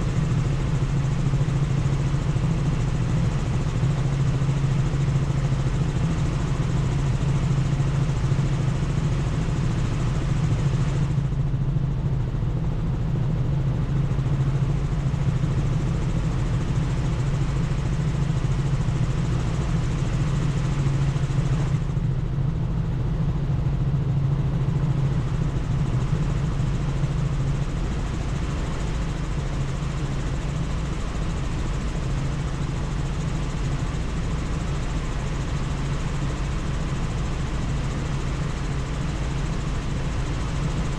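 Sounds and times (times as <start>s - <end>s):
constant rushing noise: 0.0s - 40.9s
helicopter rotor and engine drone: 0.0s - 40.9s.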